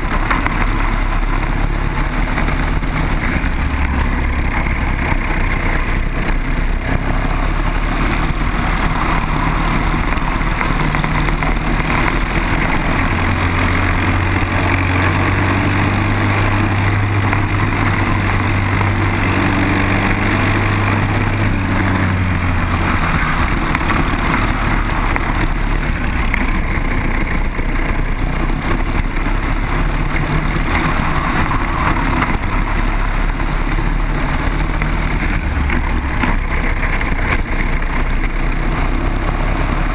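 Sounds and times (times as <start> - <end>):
continuous rush: 0.0 - 39.9
deep engine drone: 0.0 - 39.9
kart engines racing: 0.0 - 39.9.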